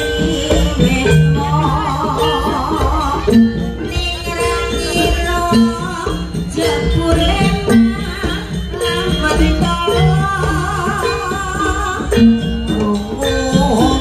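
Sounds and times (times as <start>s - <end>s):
drums gongs and metallophones: 0.0s - 14.0s
person singing: 0.0s - 14.0s.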